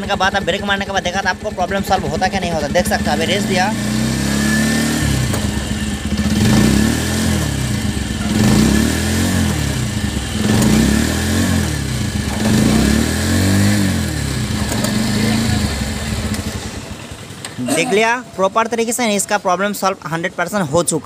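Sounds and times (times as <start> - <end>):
motorcycle engine revving: 0.0 - 19.3.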